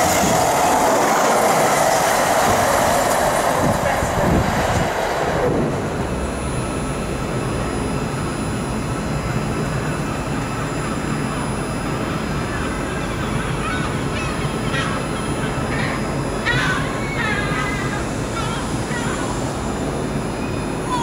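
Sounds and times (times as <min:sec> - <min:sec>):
freight train rumbling on rails: 0:00.0 - 0:21.0
steady mechanical hum: 0:00.0 - 0:21.0.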